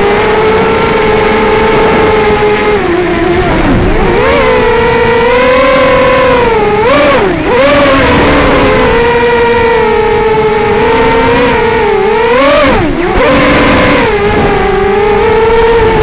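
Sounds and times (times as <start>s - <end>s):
drone motors buzzing: 0.0s - 16.0s.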